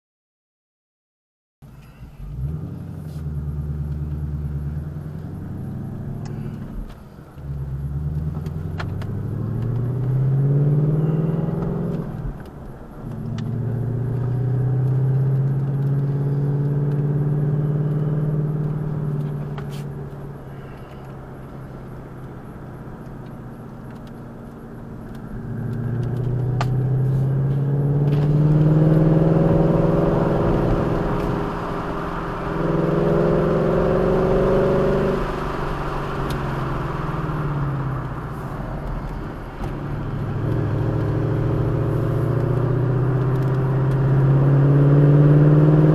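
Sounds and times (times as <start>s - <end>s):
vehicle engine accelerating: 1.8s - 45.9s.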